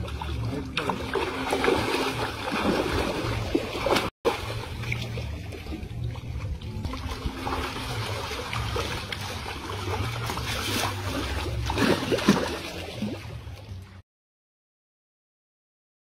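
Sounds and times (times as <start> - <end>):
river water splashing and sloshing: 0.0 - 14.0.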